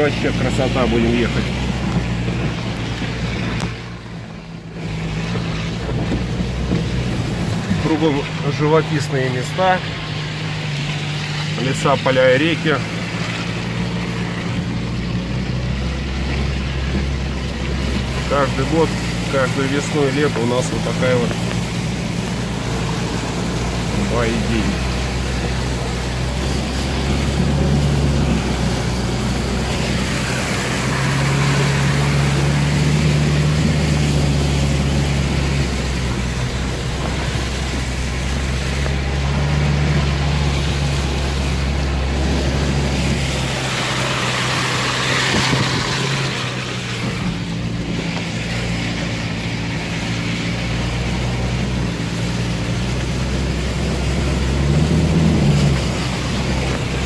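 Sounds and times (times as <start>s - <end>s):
car engine running: 0.0s - 57.0s
water and mud splashing: 0.0s - 57.0s.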